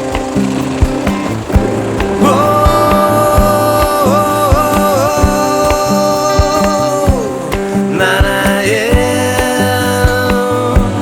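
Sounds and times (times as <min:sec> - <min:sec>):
drum beat and bass: 0:00.0 - 0:11.0
person singing long note: 0:02.2 - 0:11.0.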